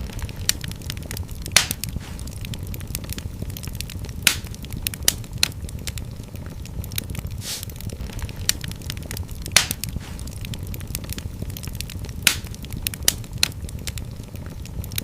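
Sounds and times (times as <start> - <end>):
sharp pops from fire: 0.0 - 15.0
wood fire crackling: 0.0 - 15.0.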